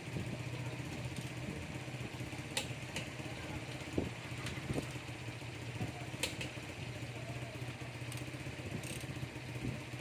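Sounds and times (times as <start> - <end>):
engine idling low hum: 0.0 - 10.0.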